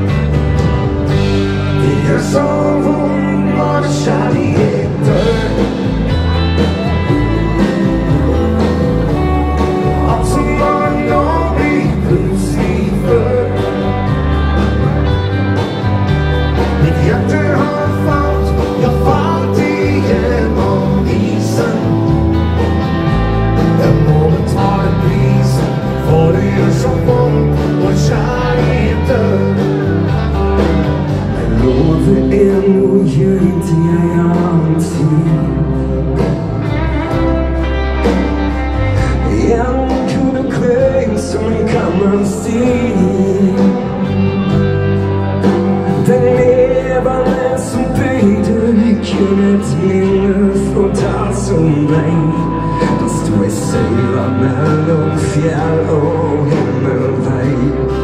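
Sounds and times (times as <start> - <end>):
live dance band playing: 0.0 - 58.0
man singing: 0.0 - 58.0.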